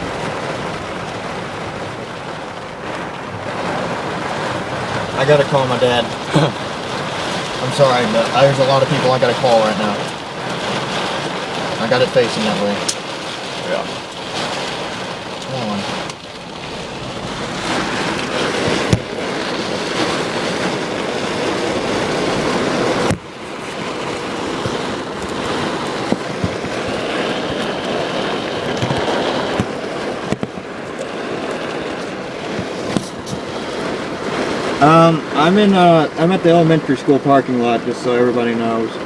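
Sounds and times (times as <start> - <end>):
heavy rain pounding on a vehicle: 0.0 - 39.0.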